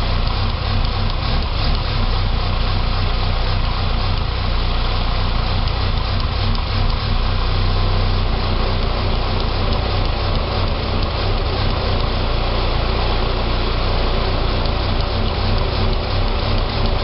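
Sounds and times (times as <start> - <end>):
car engine idling roughly: 0.0 - 17.0.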